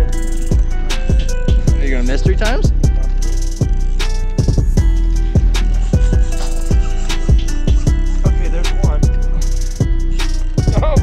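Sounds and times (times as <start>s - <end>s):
hip hop beat with synth: 0.0s - 11.0s.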